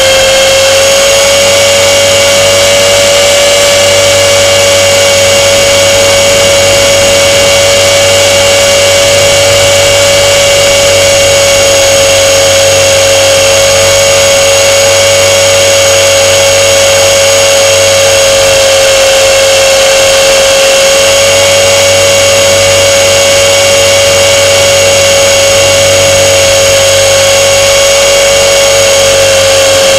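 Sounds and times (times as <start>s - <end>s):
model aircraft motor whine: 0.0s - 29.9s.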